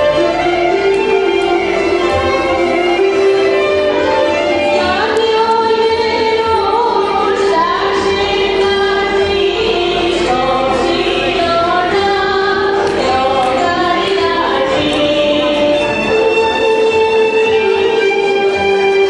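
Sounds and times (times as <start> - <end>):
music with singing voices: 0.0 - 19.0.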